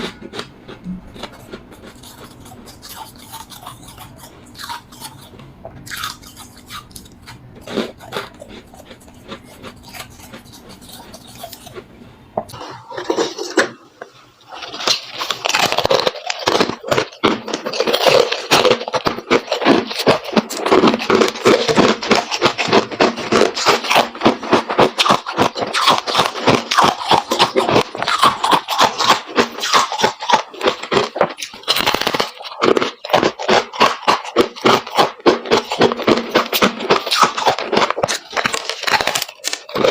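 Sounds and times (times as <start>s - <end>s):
crunching of frost being eaten: 0.0s - 11.8s, 14.4s - 39.9s.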